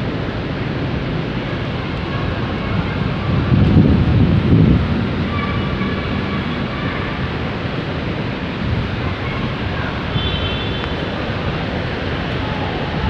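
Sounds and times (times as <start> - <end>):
vehicle traffic rumble: 0.0 - 13.0.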